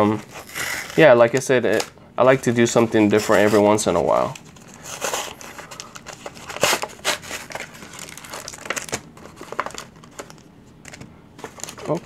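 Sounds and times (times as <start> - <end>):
cardboard tearing and crinkling: 0.1 - 10.4.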